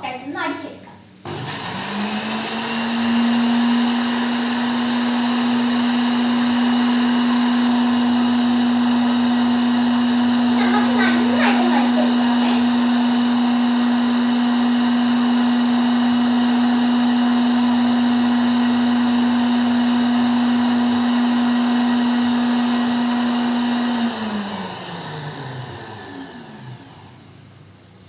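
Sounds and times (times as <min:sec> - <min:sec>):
electric mixer motor: 0:01.2 - 0:27.4.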